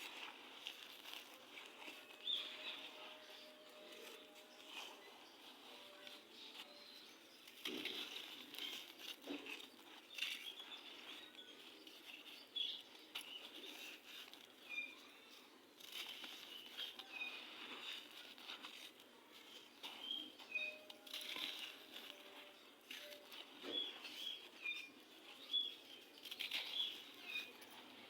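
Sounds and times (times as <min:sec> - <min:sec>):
sand crumbling and crunching: 0:00.0 - 0:28.0.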